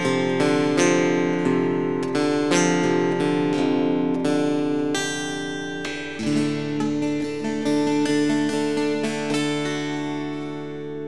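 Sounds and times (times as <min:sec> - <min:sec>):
strummed acoustic guitar chords: 0:00.0 - 0:11.0.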